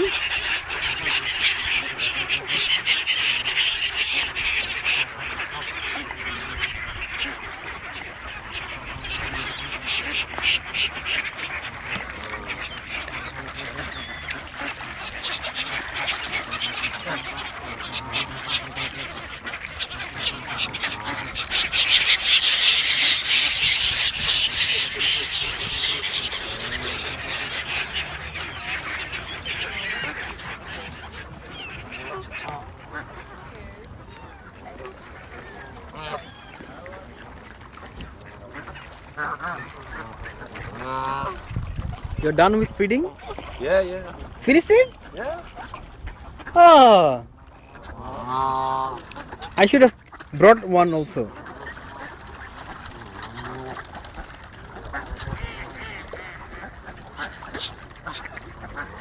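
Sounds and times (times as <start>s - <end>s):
flock of birds calling: 0.0s - 59.0s.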